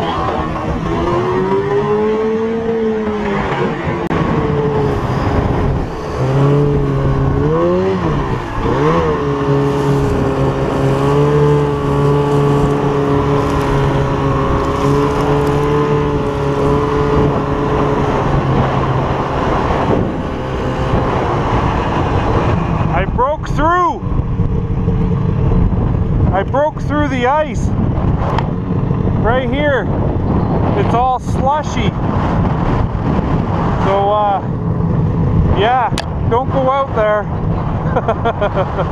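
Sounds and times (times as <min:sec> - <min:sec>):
snowmobile engine: 0:00.0 - 0:38.9
wind noise on microphone: 0:00.0 - 0:38.9.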